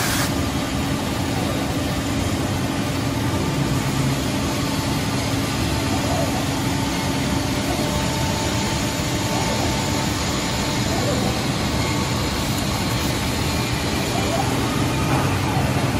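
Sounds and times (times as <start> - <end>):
high machine whine: 0.0 - 15.9
woodworking machine humming: 0.0 - 15.9.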